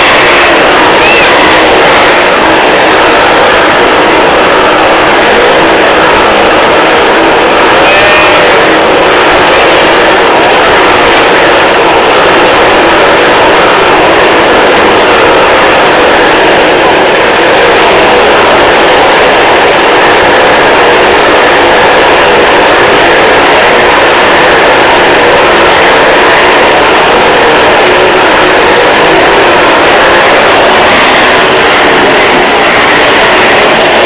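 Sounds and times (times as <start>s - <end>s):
motorcycle engines running: 0.0s - 34.0s.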